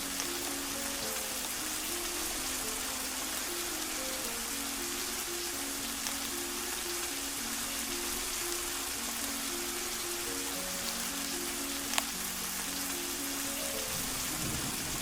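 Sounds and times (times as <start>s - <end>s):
heavy rain hissing: 0.0s - 15.0s
slow soft melody: 0.0s - 15.0s.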